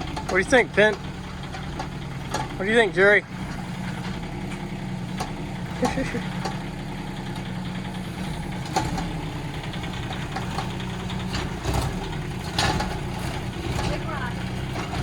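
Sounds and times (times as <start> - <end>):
diesel excavator engine running: 0.0 - 15.0.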